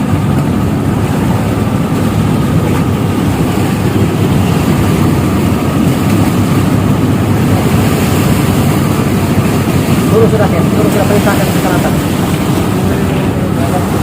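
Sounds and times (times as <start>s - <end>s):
ship diesel engine rumble: 0.0s - 14.0s.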